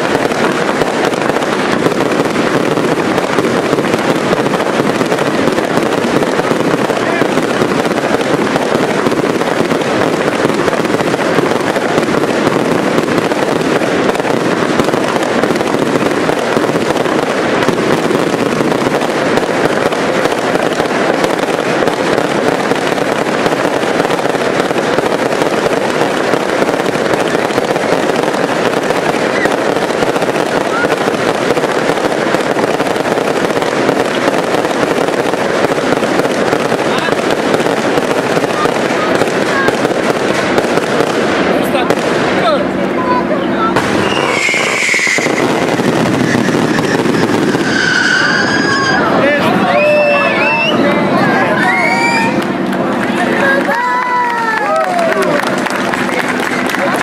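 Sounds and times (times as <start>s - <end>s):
fireworks rapid bangs and crackle: 0.0s - 57.0s.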